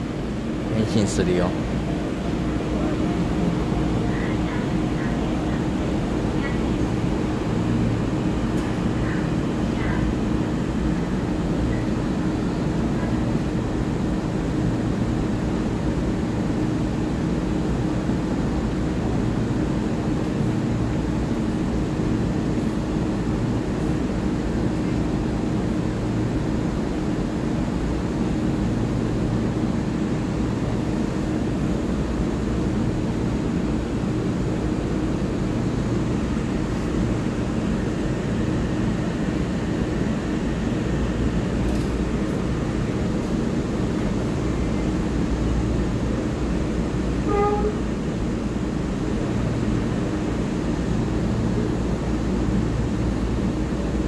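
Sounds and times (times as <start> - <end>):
electric train humming: 0.0 - 54.0.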